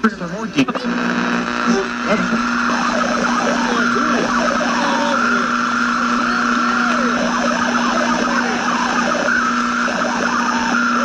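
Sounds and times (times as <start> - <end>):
constant hum: 0.0 - 11.0
radio static hiss: 0.0 - 11.0.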